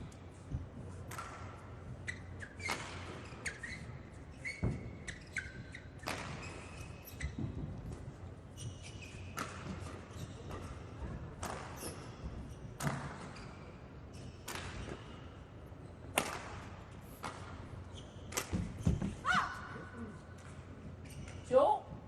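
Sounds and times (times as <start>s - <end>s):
court shoes squeaking: 0.0s - 21.8s
indoor sports hall ambience: 0.0s - 22.0s.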